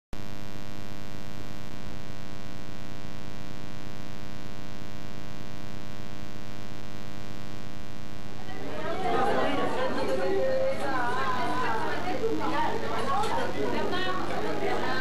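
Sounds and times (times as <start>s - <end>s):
mains hum: 0.2s - 15.0s.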